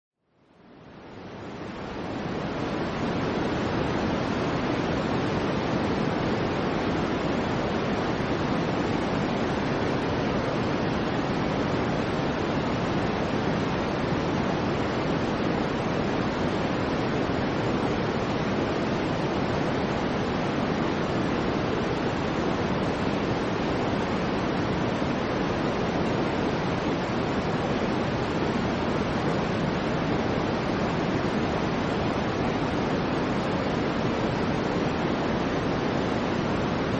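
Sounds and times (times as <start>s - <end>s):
soft white noise hiss: 0.3s - 36.9s.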